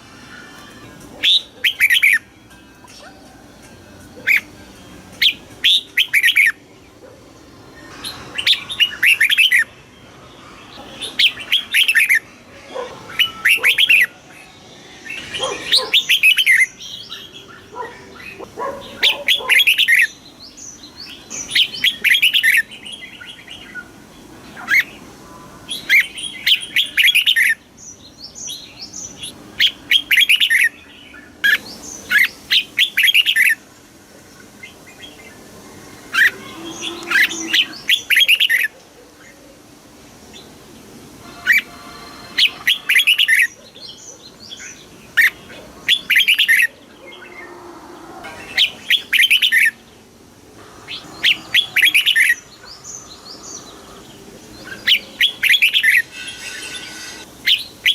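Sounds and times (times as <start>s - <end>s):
bird singing chirping phrases: 0.0s - 3.2s, 4.2s - 33.7s, 34.4s - 39.4s, 40.3s - 57.9s.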